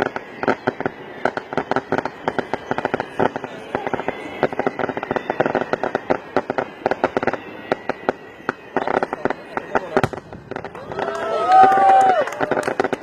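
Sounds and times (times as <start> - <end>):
firecrackers cracking and banging: 0.0 - 13.0.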